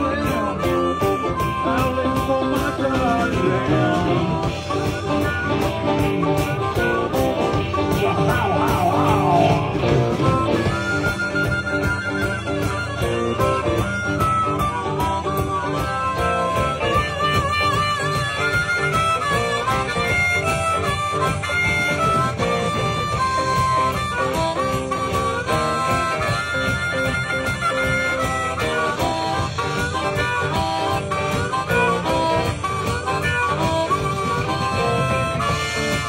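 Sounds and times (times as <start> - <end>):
blues band playing: 0.0 - 36.0
harmonica bending notes: 0.0 - 36.0.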